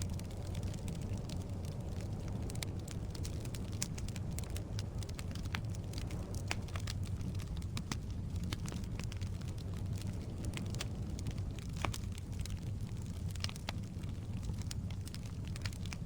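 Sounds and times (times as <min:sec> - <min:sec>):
crackles and pops of burning logs: 0:00.0 - 0:16.0
low rumble of flame: 0:00.0 - 0:16.0.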